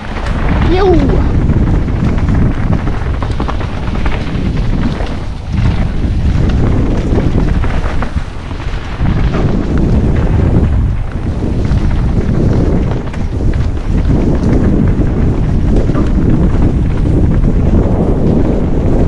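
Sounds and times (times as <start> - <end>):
bike clicks and rattles: 0.0 - 19.0
tyres rumbling over ground: 0.0 - 19.0
wind buffeting microphone: 0.0 - 19.0.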